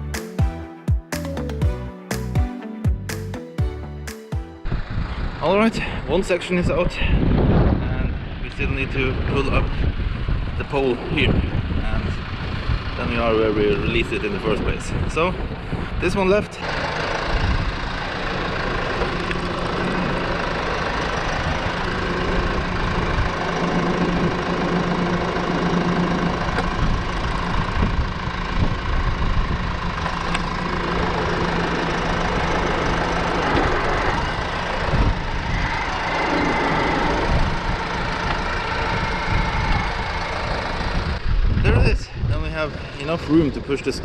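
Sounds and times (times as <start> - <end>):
tractor diesel engine running: 3.1 - 44.0.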